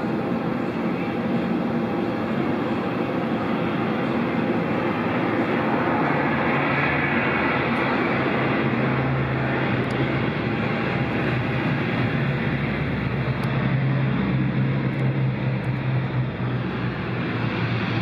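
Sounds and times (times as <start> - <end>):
turboprop plane landing roll: 0.0 - 18.0.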